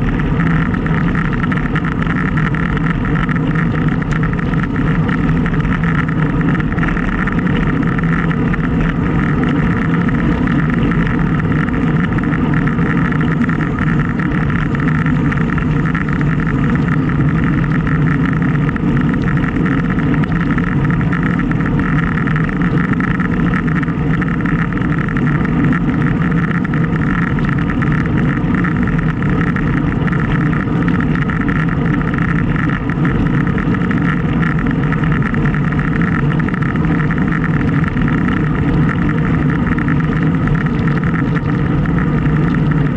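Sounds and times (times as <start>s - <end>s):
road noise: 0.0s - 42.9s
wind rushing over microphone: 0.0s - 42.9s.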